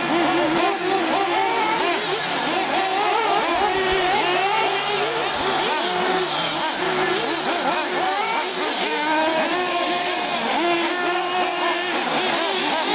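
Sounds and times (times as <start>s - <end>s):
small engines revving: 0.0s - 12.9s.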